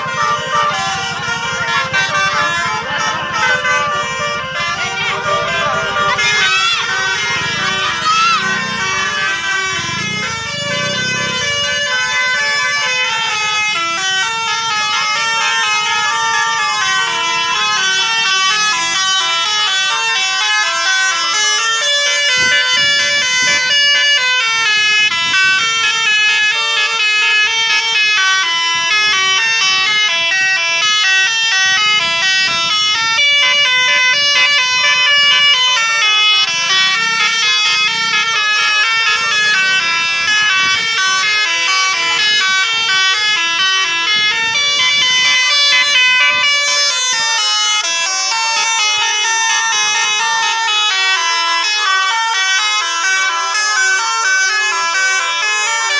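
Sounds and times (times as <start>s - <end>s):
multi-tone bus horns playing tunes: 0.0s - 55.9s.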